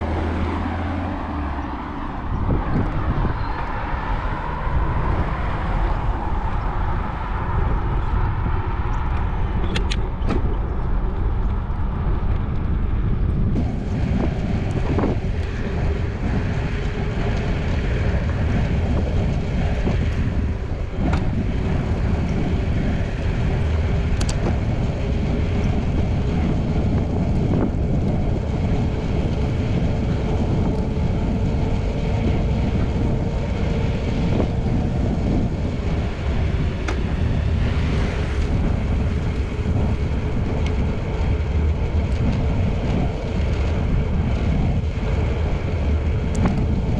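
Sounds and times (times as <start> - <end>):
road and traffic noise: 0.0 - 46.9
wind rumble on microphone: 0.0 - 46.9.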